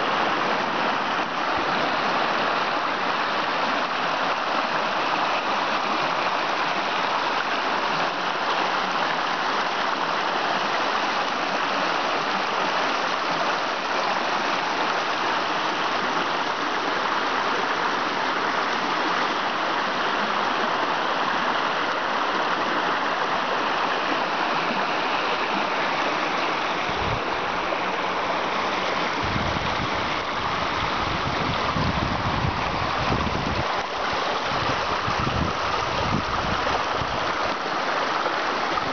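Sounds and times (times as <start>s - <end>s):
creek rushing over stones: 0.0s - 38.9s.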